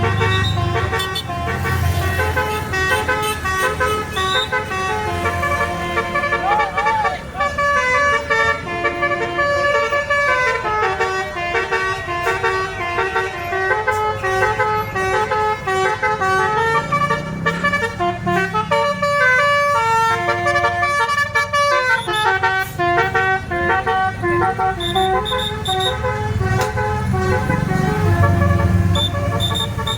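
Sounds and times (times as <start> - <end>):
bus engine running: 0.0 - 29.9
multi-tone bus horn melody: 0.0 - 29.9.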